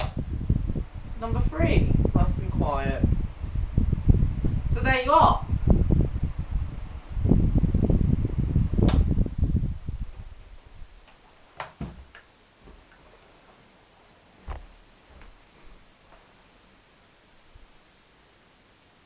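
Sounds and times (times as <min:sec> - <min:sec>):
fan air buffeting microphone: 0:00.0 - 0:16.6.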